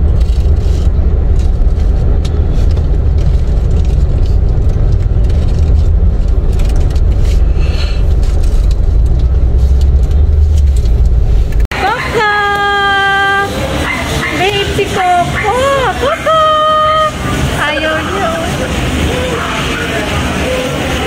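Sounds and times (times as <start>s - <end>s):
car interior engine and road noise: 0.0s - 21.0s.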